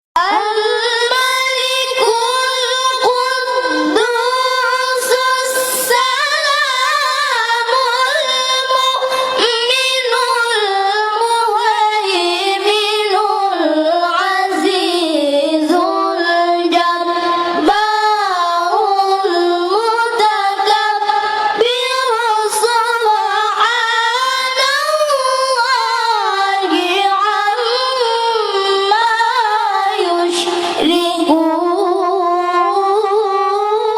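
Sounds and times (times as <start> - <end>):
girl chanting recitation: 0.2 - 33.9.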